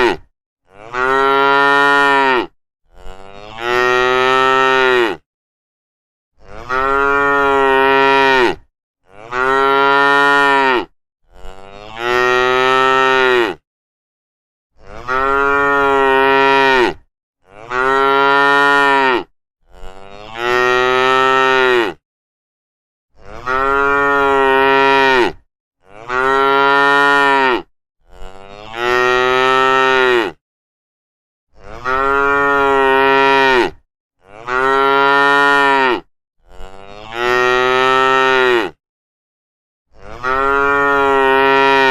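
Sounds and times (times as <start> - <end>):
cattle mooing: 0.0 - 5.2, 6.4 - 13.6, 14.8 - 22.0, 23.2 - 30.4, 31.6 - 38.8, 40.0 - 41.9.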